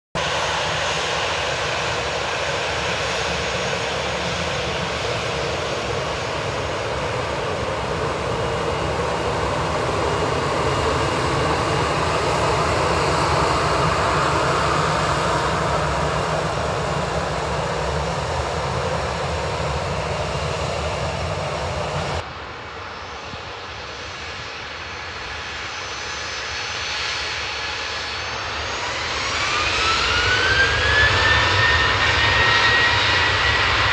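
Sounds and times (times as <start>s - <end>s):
jet engines spooling up: 0.2s - 23.4s, 25.5s - 33.9s
distant jet engine hum: 0.2s - 33.9s
jet engines whining and rumbling: 0.2s - 33.9s.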